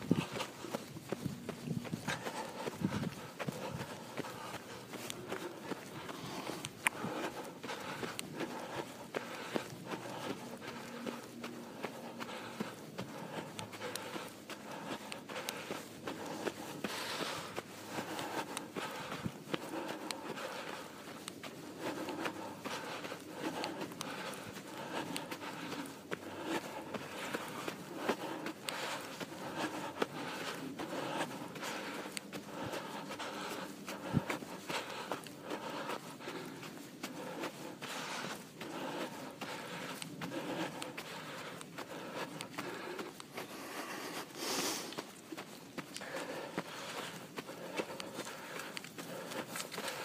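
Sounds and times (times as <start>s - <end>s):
footsteps crunching in snow: 0.0s - 50.0s.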